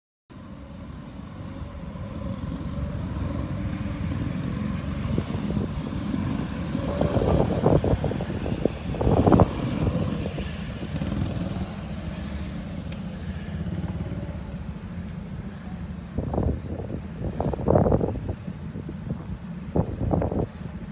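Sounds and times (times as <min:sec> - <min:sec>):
go-kart engines buzzing: 0:00.4 - 0:20.9.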